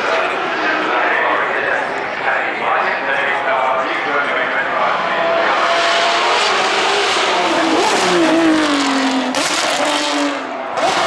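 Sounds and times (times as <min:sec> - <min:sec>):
racing car engine: 0:00.0 - 0:11.0.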